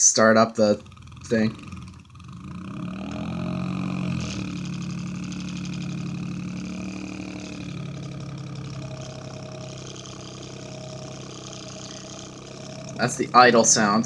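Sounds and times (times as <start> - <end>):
desk fan pulsing drone: 0.0 - 14.0.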